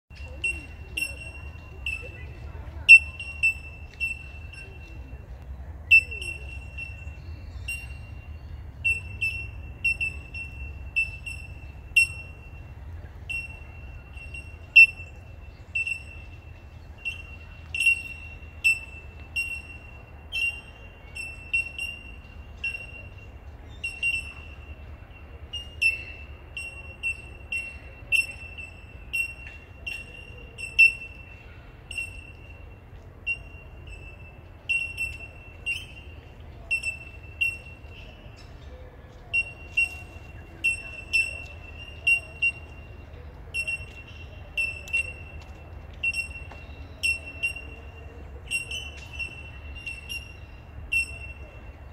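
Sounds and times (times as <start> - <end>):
birds calling bell-like tink notes: 0.1 - 51.9.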